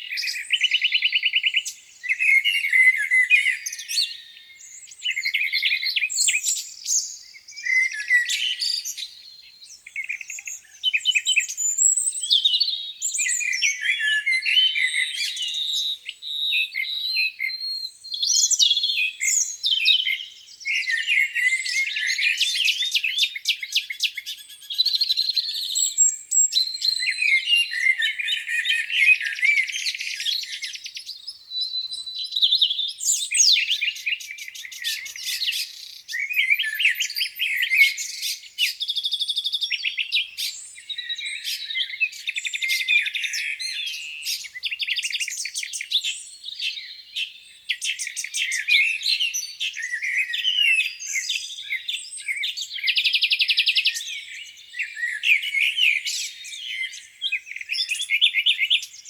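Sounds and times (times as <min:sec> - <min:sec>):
songbirds chorus: 0:00.0 - 0:59.0.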